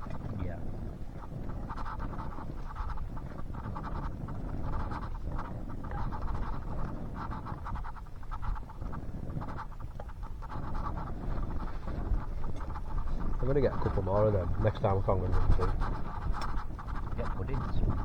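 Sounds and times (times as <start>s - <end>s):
spoon scraping a camping pot: 0.0s - 18.0s.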